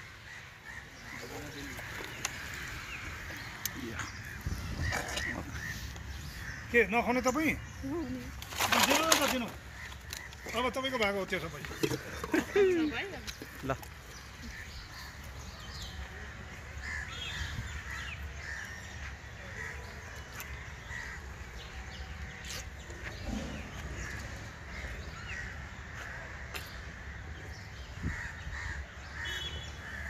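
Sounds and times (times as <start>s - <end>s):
bird calling: 0.0s - 30.0s.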